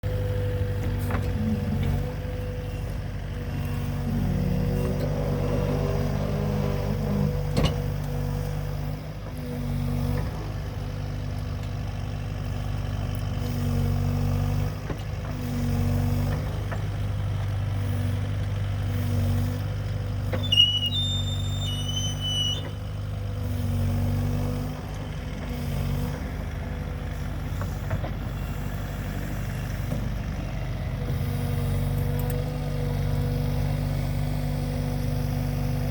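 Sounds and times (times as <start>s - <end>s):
excavator engine running: 0.0s - 35.9s.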